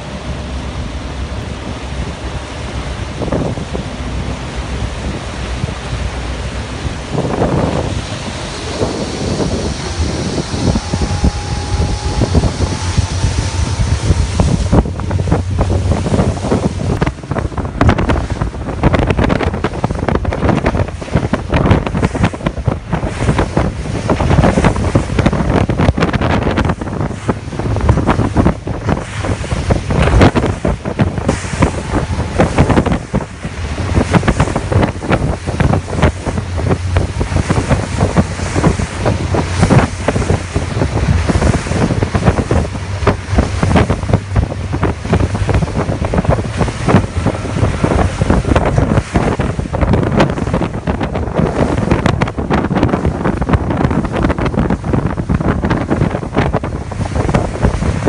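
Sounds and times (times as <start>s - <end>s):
boat engines droning: 0.0s - 58.0s
rushing water: 0.0s - 58.0s
wind buffeting microphone: 0.0s - 58.0s.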